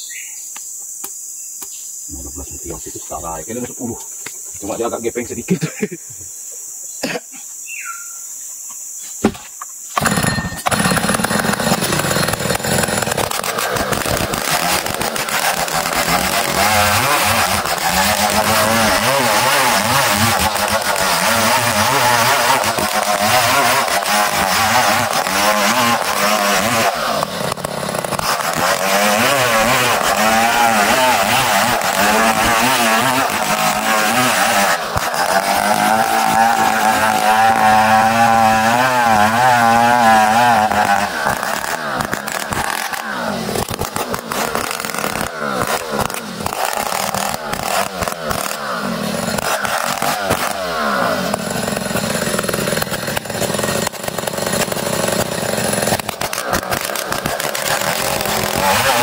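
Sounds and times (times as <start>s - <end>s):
chainsaw cutting wood: 9.2s - 59.0s.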